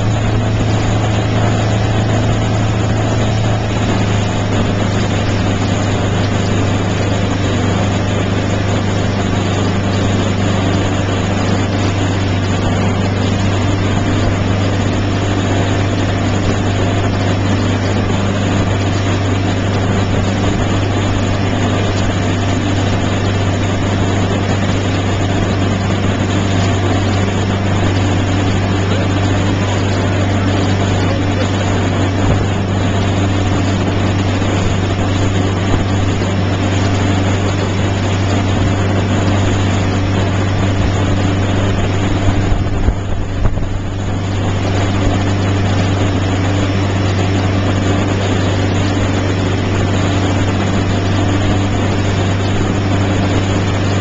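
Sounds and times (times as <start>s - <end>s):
motorboat engine droning: 0.0s - 54.0s
rush of boat wake: 0.0s - 54.0s.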